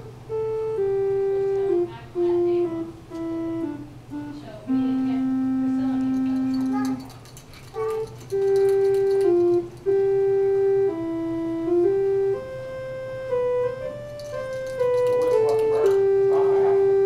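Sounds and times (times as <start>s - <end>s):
slow simple tune: 0.0s - 17.0s.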